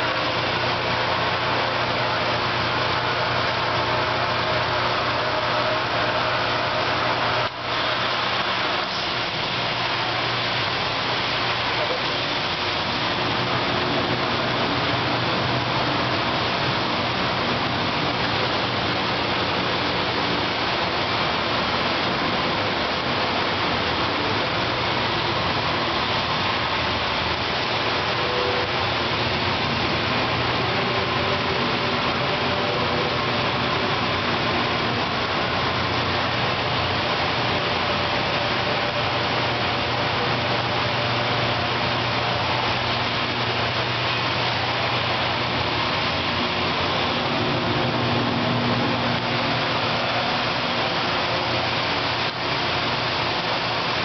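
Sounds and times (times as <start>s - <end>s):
low machine hum: 0.0s - 54.0s
spraying water rush: 0.0s - 54.0s.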